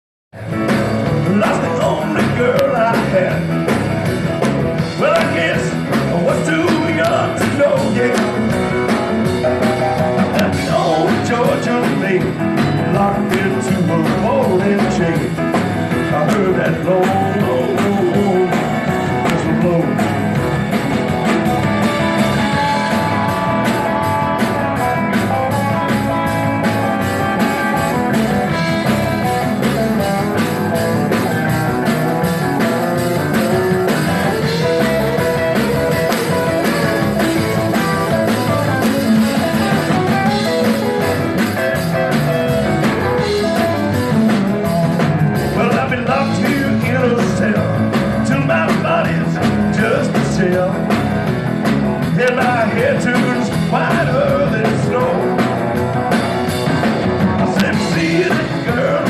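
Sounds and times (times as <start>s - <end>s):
lead guitar: 0.4s - 59.0s
steady drum beat: 0.4s - 59.0s.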